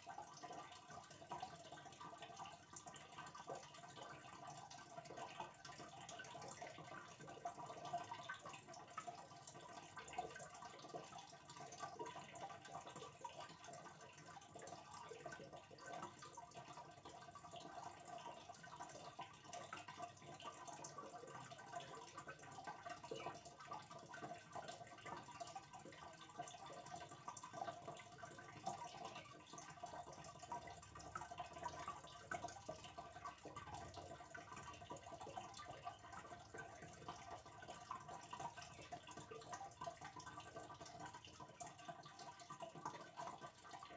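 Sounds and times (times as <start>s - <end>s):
aquarium water trickling: 0.0s - 43.9s.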